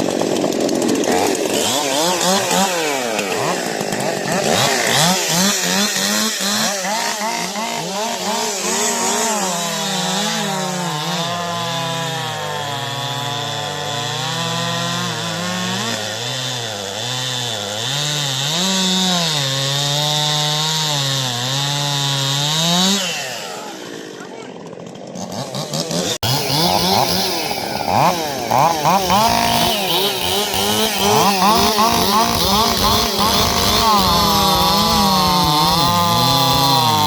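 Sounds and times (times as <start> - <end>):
chainsaw cutting through wood: 0.0 - 37.0.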